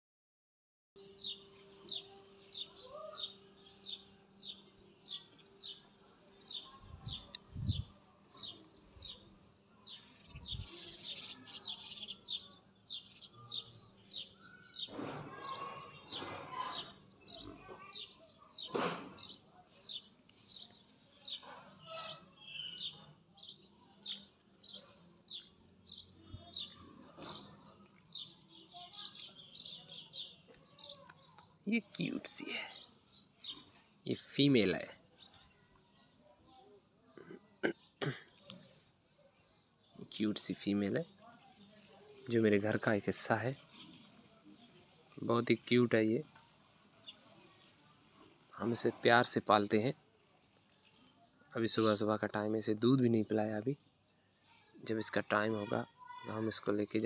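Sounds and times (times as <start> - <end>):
bird chirping: 1.0 - 54.1.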